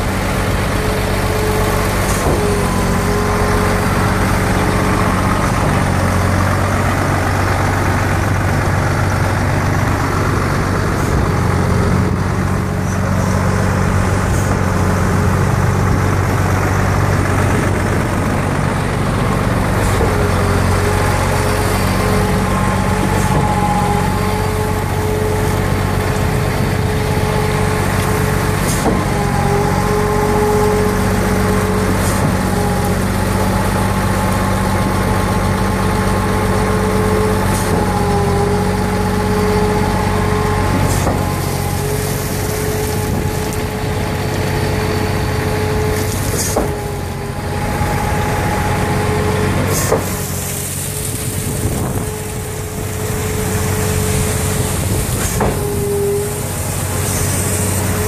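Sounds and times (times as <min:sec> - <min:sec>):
diesel engine drone: 0:00.0 - 0:58.0
pump whining: 0:00.0 - 0:58.0.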